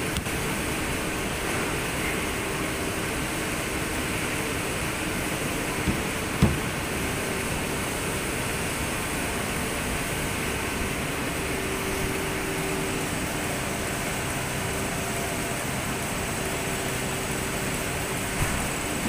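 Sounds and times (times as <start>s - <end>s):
factory hiss: 0.0s - 19.0s.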